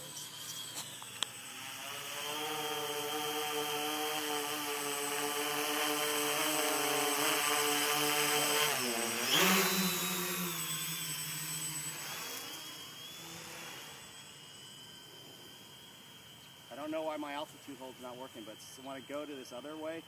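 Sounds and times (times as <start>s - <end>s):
drone rotors humming: 0.0s - 20.0s.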